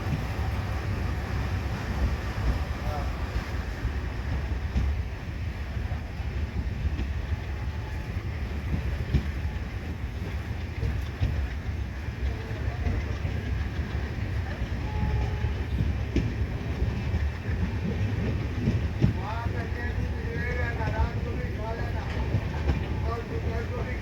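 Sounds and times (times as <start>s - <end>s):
train coaches rumbling: 0.0s - 24.0s.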